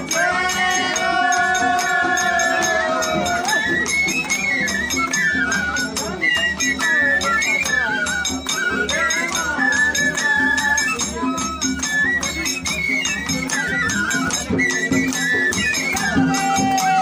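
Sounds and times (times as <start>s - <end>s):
rhythmic rattling percussion: 0.0s - 17.0s.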